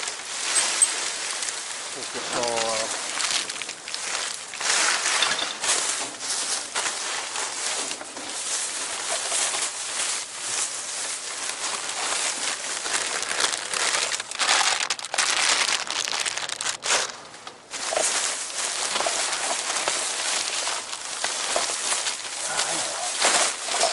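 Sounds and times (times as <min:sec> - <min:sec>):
plastic bags crinkling: 0:00.0 - 0:23.9.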